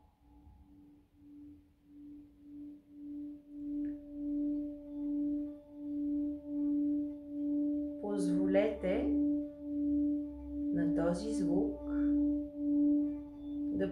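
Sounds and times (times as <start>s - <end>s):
singing bowl humming: 0.0s - 13.9s.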